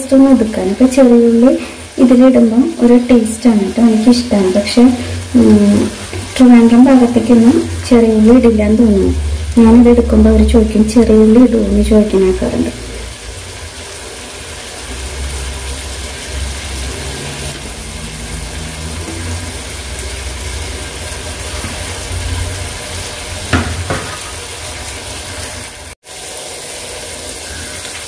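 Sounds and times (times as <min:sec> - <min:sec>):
gas stove low rumble: 0:00.0 - 0:25.9
vegetables sizzling in a pan: 0:00.0 - 0:28.0.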